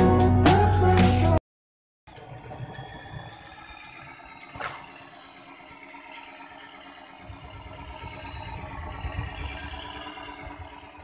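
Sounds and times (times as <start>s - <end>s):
toy truck motor whine: 2.1s - 11.0s.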